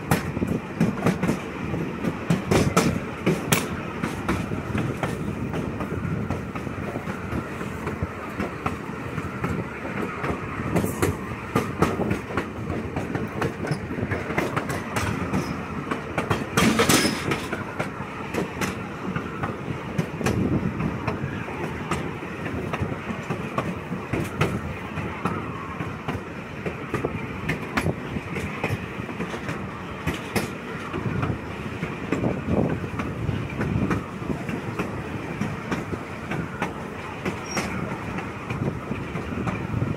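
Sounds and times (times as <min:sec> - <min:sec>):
rumble of moving train car: 0:00.0 - 0:39.9
wheels clicking over rail joints: 0:00.0 - 0:39.9.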